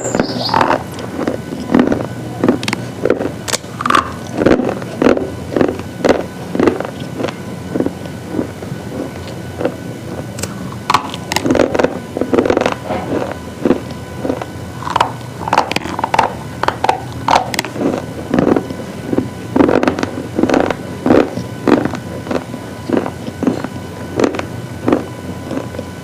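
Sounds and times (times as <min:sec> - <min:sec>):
crunchy chewing: 0:00.0 - 0:26.0
steady low hum: 0:00.0 - 0:26.0.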